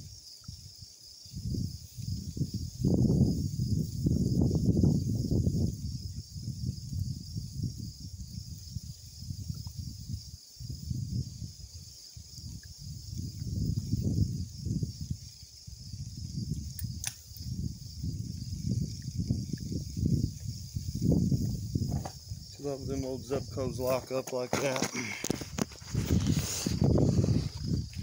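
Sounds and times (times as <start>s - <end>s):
insects buzzing: 0.0s - 28.0s
wind buffeting microphone: 0.5s - 28.0s.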